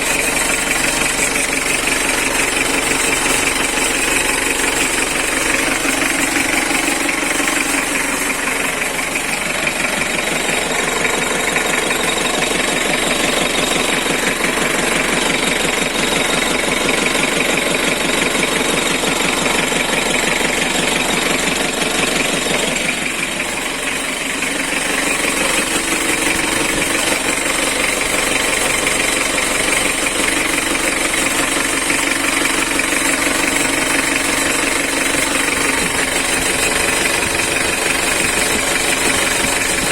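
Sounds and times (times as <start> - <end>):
diesel engine knocking clatter: 0.0 - 39.9.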